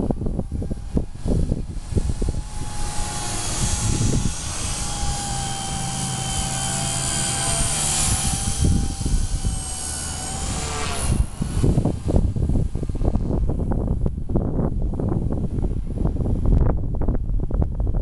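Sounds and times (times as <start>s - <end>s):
rc helicopter rotor whine: 0.0s - 17.1s
wind buffeting microphone: 0.0s - 18.0s.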